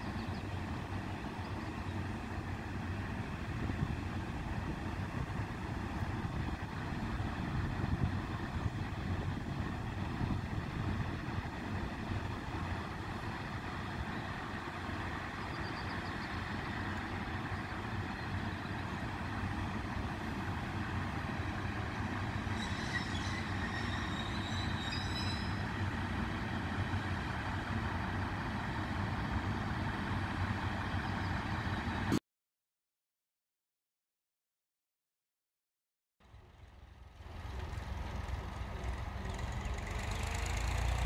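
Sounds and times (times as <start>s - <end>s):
freight train rumbling: 0.0s - 32.2s, 36.2s - 41.0s.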